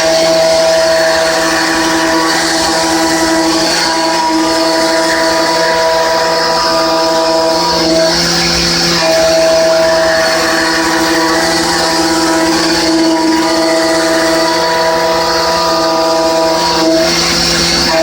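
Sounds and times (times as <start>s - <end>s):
milling machine cutting hum: 0.0s - 18.0s.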